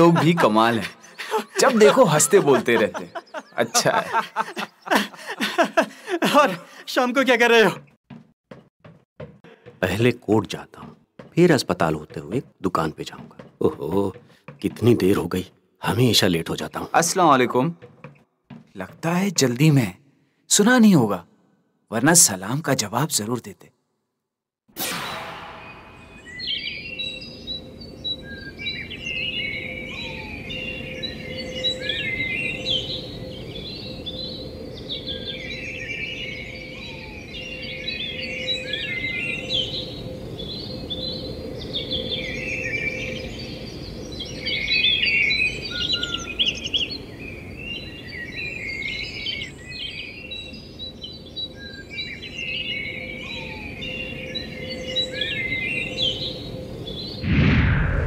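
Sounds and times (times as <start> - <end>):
small birds chirping: 0.0 - 21.3, 25.5 - 57.2.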